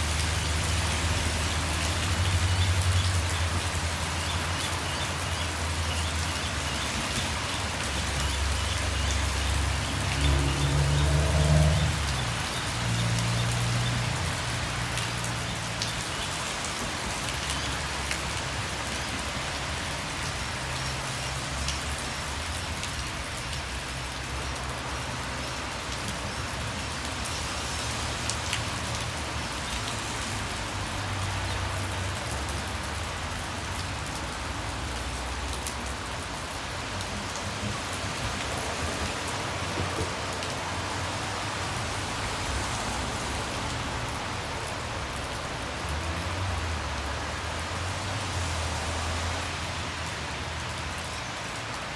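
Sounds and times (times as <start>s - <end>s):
road traffic rumble: 0.0s - 51.9s
steady rain: 0.0s - 51.9s
vehicle rumble: 0.0s - 51.9s.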